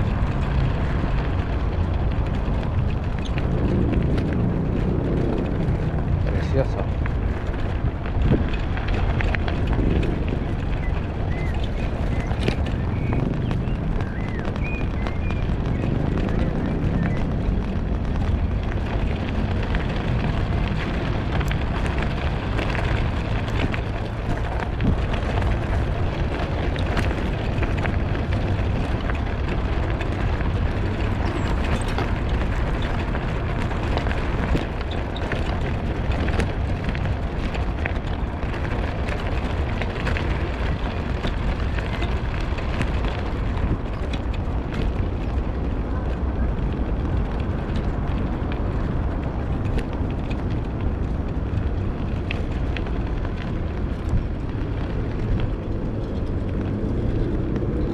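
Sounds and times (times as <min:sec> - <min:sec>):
small clicks and rattles: 0:00.0 - 0:57.9
wind rumble on microphone: 0:00.0 - 0:57.9.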